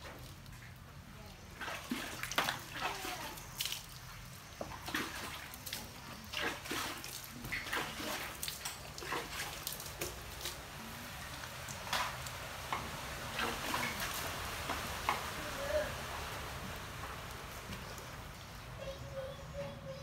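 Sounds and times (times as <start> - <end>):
water splashing and dripping: 0.0 - 20.0.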